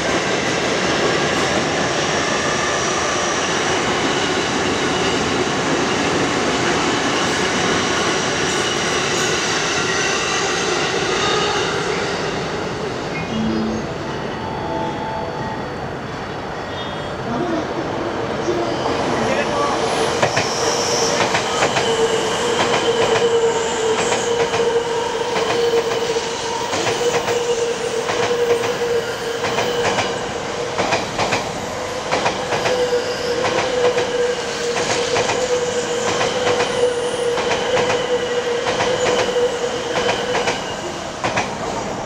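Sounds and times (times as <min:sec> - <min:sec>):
electric train whine: 0:00.0 - 0:42.0.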